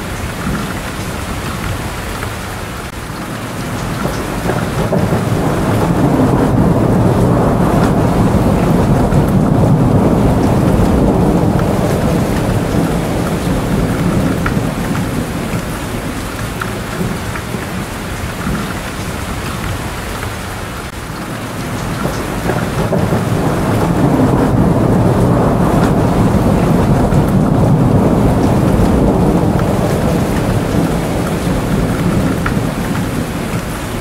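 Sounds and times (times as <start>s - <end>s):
low rumbling thunder: 0.0s - 34.0s
rain drop ticks: 0.0s - 34.0s
steady rain: 0.0s - 34.0s.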